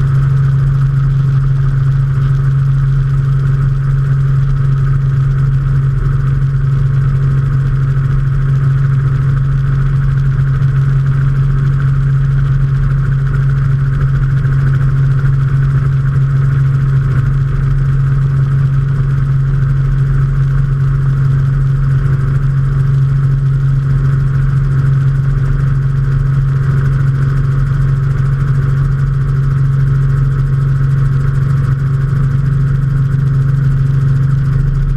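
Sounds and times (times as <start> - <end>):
helicopter engine and rotors droning: 0.0 - 34.9.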